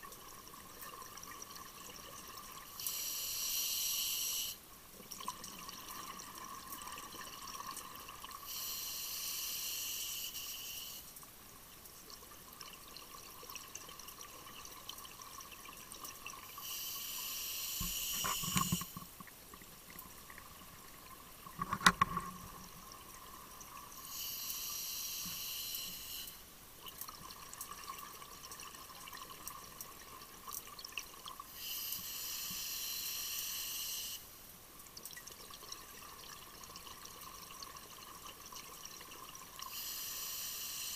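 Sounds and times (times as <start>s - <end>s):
faint steady whine: 0.0s - 40.9s.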